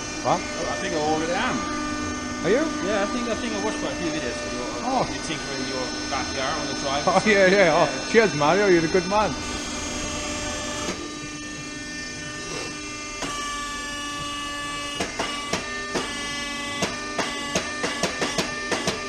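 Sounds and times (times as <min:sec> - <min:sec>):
tube bender machine humming: 0:00.0 - 0:19.0.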